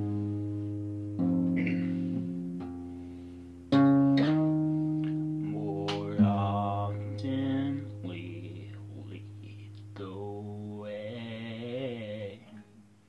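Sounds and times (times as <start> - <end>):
guitar chords ringing: 0.0 - 11.2.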